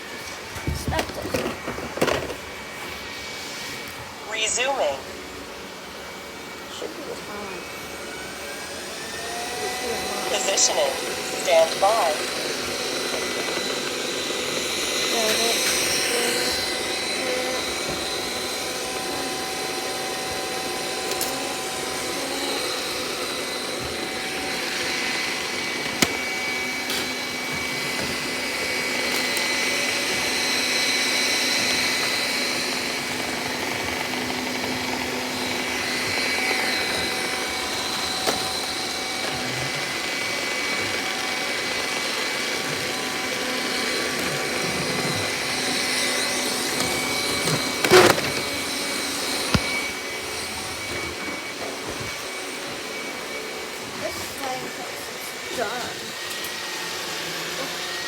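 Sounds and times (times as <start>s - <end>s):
robot vacuum whirring: 0.0s - 58.0s.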